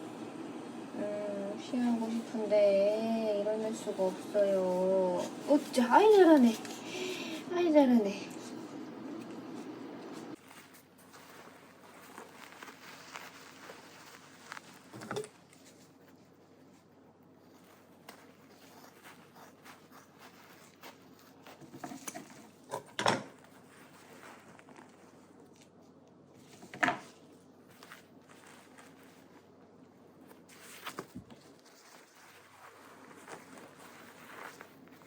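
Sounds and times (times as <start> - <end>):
faint rustling and handling: 0.9 - 35.0.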